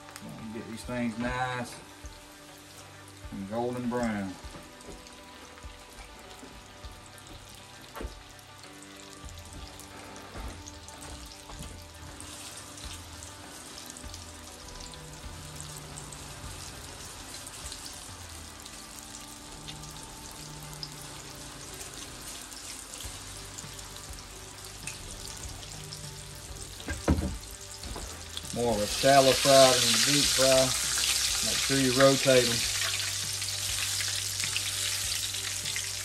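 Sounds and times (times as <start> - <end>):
background music: 0.0 - 36.0
frying oil sizzling and popping: 0.0 - 36.0.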